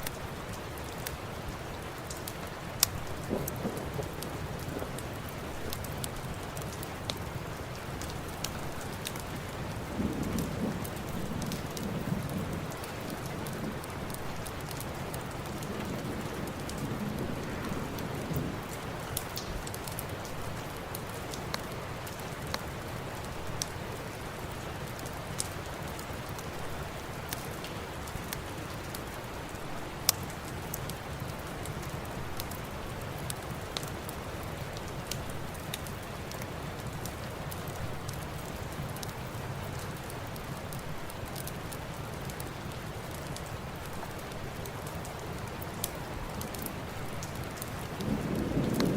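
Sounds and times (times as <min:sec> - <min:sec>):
rain falling: 0:00.0 - 0:48.9
wood fire crackling: 0:00.0 - 0:48.9.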